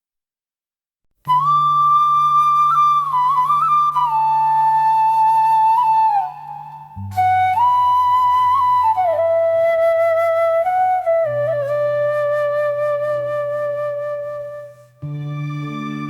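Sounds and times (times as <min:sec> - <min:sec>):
flute-like melody: 0:01.3 - 0:16.0.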